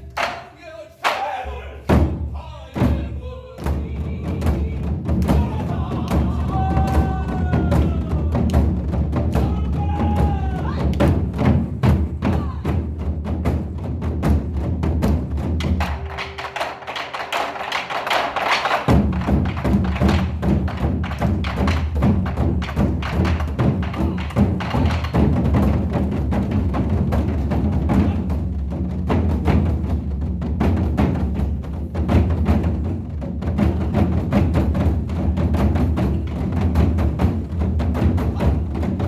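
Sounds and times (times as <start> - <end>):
drums beating fast: 0.0 - 39.0.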